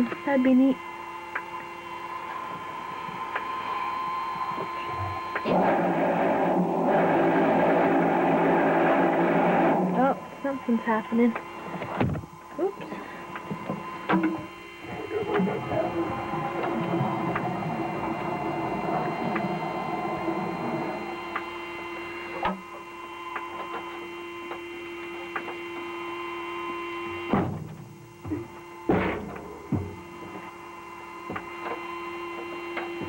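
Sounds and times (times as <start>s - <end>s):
faint mechanical whir: 0.0s - 33.0s
steady electrical hum: 0.0s - 33.0s.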